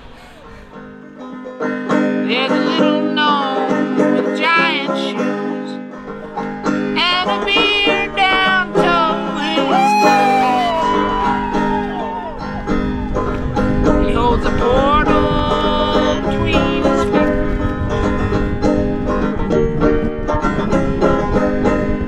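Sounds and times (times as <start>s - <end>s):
bluegrass plucked string music: 0.0s - 22.0s.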